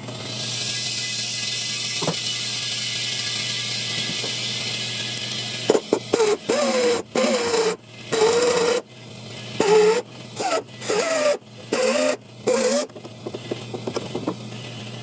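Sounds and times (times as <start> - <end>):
power tool on sheet metal: 0.0 - 8.9, 9.6 - 13.0.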